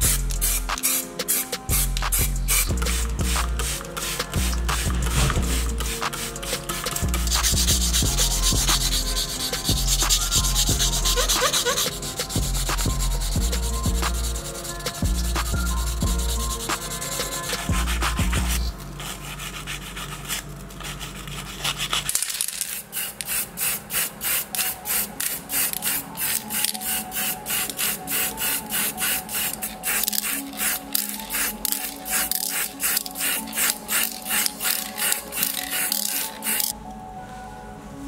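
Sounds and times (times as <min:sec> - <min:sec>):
spray paint hissing in bursts: 0:00.0 - 0:18.7, 0:22.6 - 0:36.7
wet sanding rubbing: 0:00.4 - 0:22.2, 0:22.8 - 0:36.7.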